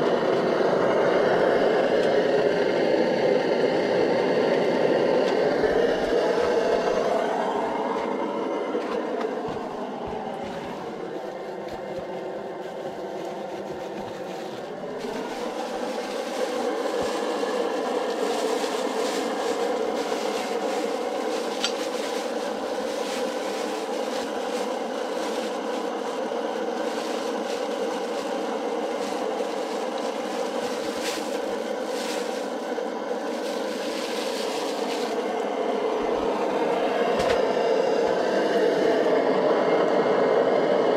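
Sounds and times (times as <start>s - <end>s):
camping stove rushing hiss: 0.0s - 40.9s.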